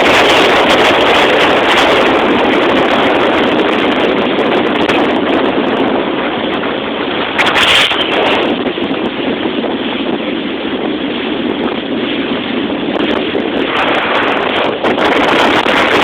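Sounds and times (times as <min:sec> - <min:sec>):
boat motor and water rushing: 0:00.0 - 0:16.0
wind on microphone: 0:00.0 - 0:16.0.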